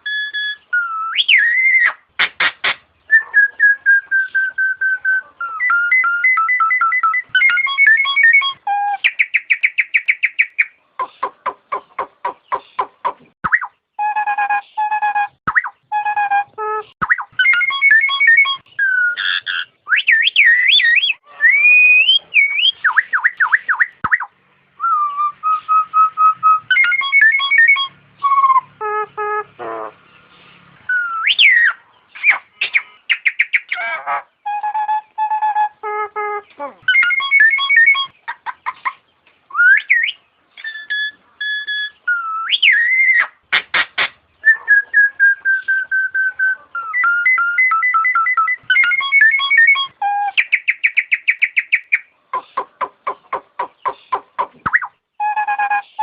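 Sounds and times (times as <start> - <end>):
myna bird whistling calls: 0.0 - 29.0, 30.9 - 56.0.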